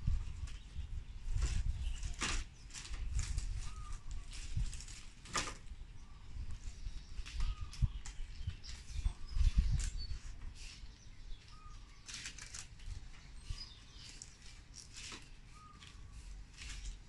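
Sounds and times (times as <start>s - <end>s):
leaf strips rustling and scraping: 0.0s - 17.0s.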